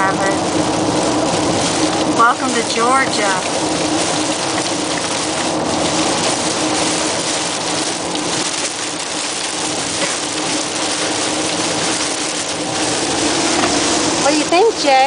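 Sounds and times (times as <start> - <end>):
heavy rain on a moving car: 0.0 - 15.0.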